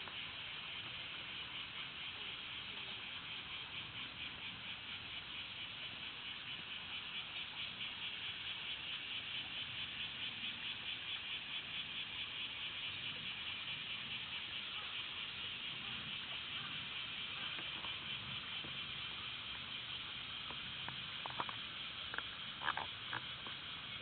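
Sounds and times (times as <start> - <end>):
cicada buzzing: 0.0 - 24.0.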